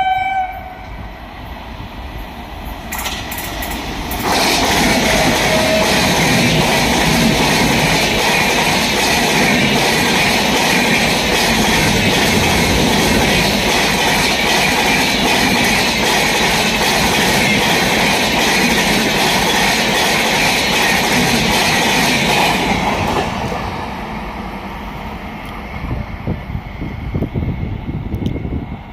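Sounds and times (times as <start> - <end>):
train wheels on rails: 0.0 - 28.9.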